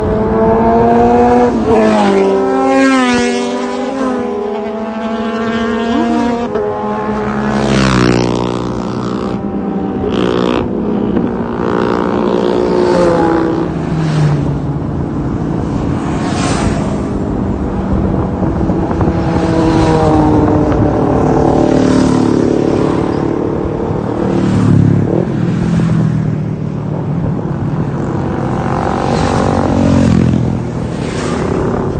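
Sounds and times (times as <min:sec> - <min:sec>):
motorcycles riding past: 0:00.0 - 0:31.9.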